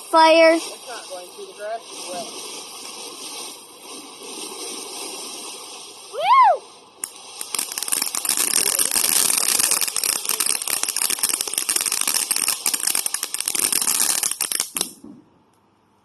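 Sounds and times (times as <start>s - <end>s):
firework crackling: 0.0s - 15.2s.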